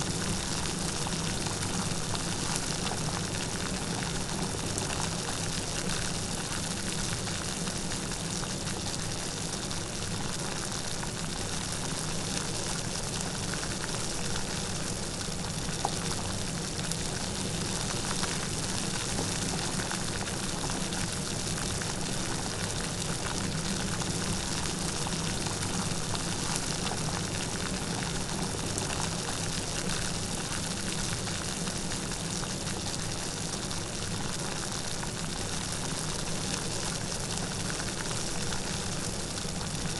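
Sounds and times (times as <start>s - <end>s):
light rain pattering: 0.0s - 39.9s.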